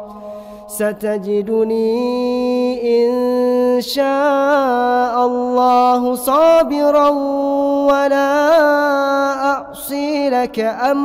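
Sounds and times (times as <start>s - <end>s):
man chanting melodically: 0.0s - 11.0s.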